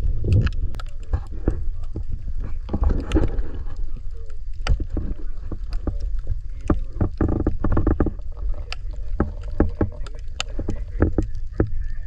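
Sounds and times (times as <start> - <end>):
sharp underwater clicks and crackles: 0.0 - 12.0
underwater rumble of water: 0.0 - 12.0.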